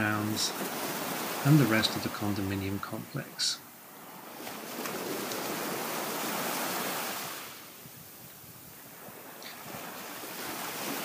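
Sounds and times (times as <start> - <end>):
surf: 0.0 - 11.0
wind: 0.0 - 11.0.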